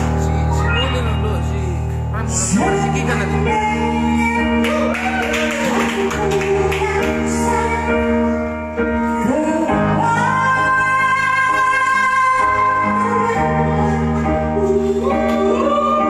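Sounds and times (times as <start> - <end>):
woman singing: 2.5 - 16.0.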